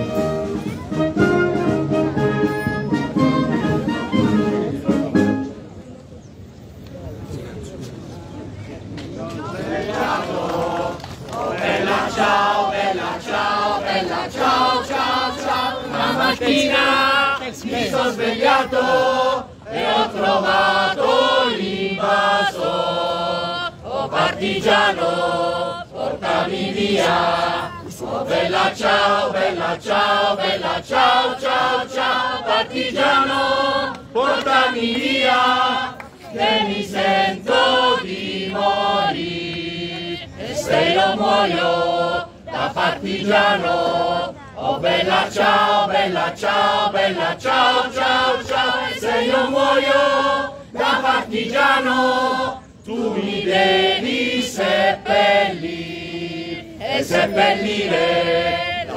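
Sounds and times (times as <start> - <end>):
crowd singing: 9.2 - 58.9.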